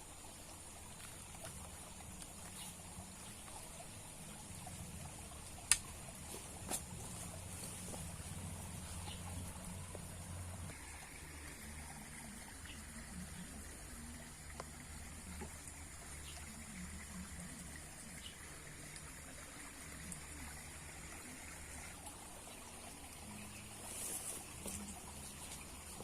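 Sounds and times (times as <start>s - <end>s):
faint trickling water: 0.0s - 26.0s.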